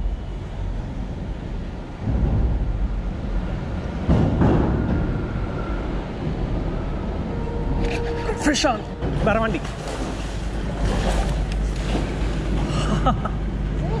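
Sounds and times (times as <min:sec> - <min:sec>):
traffic rumble overhead: 0:00.0 - 0:14.0.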